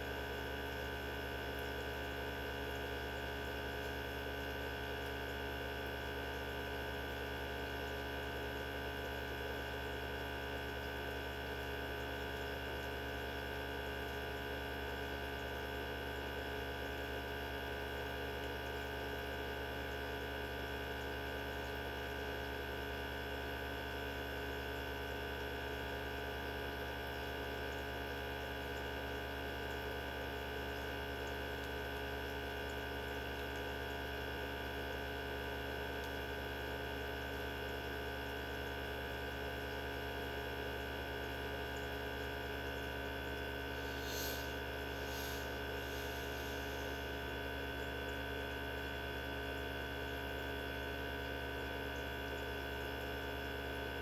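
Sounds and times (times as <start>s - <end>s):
centrifuge motor hum and whine: 0.0s - 54.0s.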